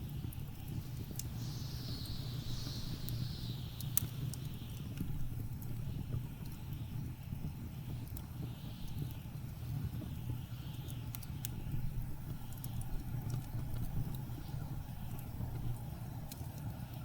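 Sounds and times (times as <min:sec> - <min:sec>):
wood fire crackling and popping: 0:00.0 - 0:17.0
blizzard wind rumbling: 0:00.1 - 0:16.3.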